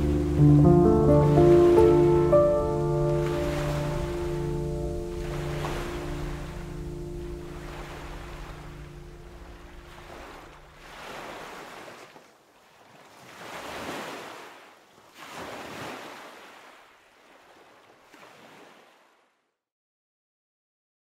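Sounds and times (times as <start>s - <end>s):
waves washing onto shore: 0.0s - 19.2s.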